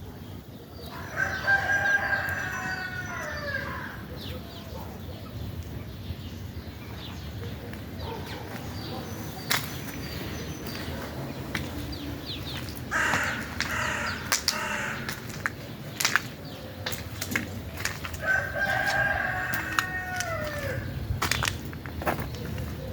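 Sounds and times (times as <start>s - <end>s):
small birds chirping: 0.0s - 22.9s
loud harsh bird calls: 0.8s - 5.4s, 6.0s - 22.9s.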